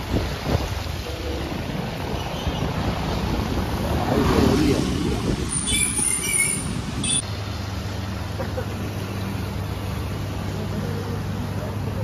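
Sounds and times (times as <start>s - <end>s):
cars driving past on wet road: 0.0s - 12.0s.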